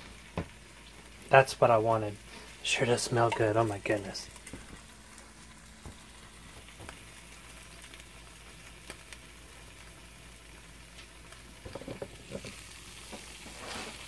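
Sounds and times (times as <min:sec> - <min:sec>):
food sizzling in contact grill: 0:00.0 - 0:14.0.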